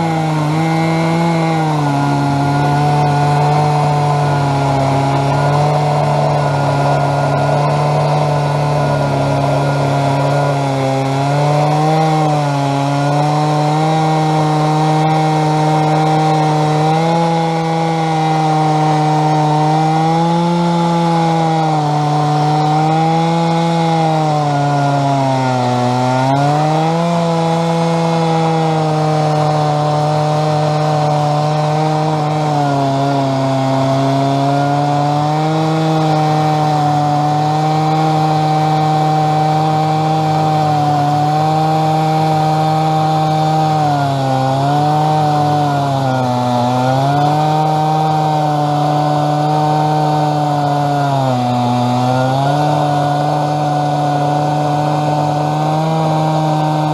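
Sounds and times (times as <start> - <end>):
chainsaw cutting log: 0.0 - 56.9.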